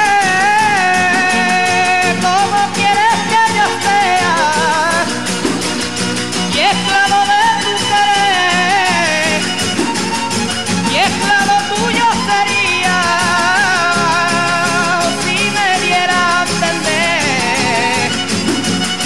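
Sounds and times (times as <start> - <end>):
person singing: 0.0 - 5.6, 6.5 - 9.9, 10.8 - 19.0
strummed percussive beat: 0.0 - 19.0.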